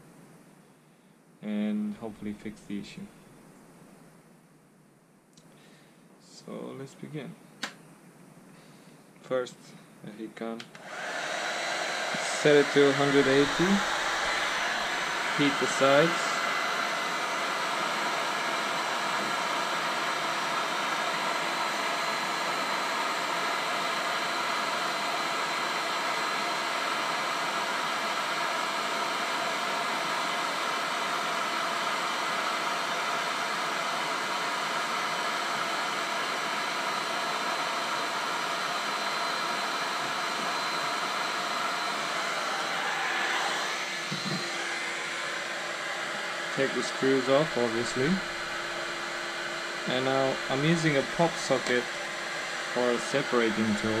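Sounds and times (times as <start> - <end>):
fan whine: 0.0 - 54.0
heat gun blowing air: 10.8 - 54.0.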